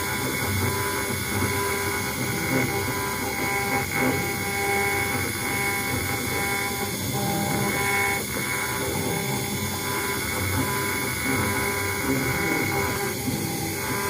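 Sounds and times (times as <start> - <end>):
router spindle engraving metal: 0.0 - 14.0.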